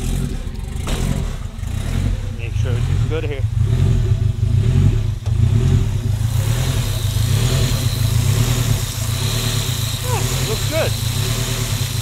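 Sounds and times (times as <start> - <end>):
car engine idling rough: 0.0 - 12.0
faint high engine whine: 0.0 - 12.0.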